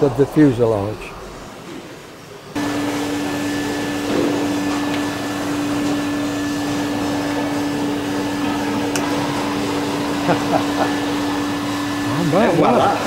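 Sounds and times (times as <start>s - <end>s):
electric motor whirring hum: 1.2s - 13.0s.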